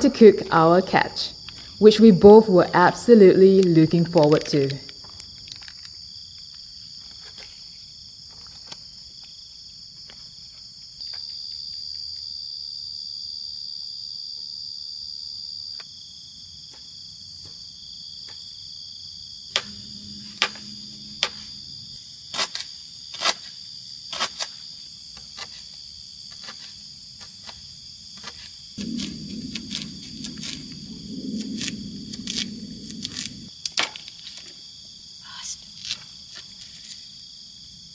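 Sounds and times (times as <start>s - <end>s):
insects trilling: 0.0s - 37.9s.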